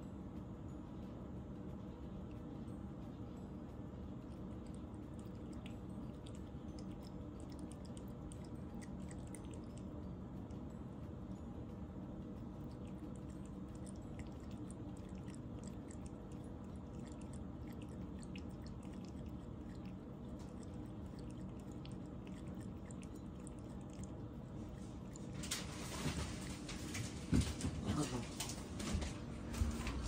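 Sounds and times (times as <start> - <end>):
low room hum: 0.0 - 30.0
cat licking: 2.1 - 28.2.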